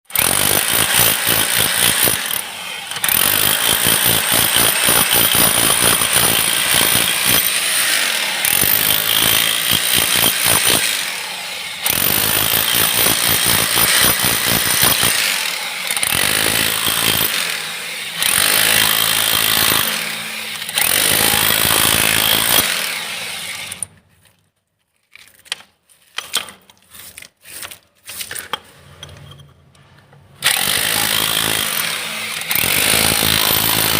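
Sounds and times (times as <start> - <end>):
hammer drill hammering: 0.1 - 23.9, 30.4 - 33.9.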